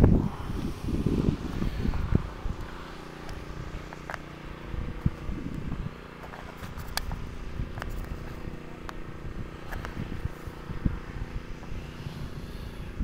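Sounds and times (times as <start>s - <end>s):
engine running steadily: 0.0s - 13.0s
low rumbles: 0.0s - 13.0s.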